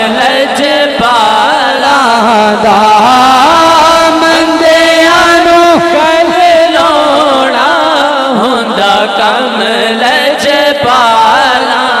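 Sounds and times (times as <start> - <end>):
man chanting into a microphone: 0.0 - 12.0.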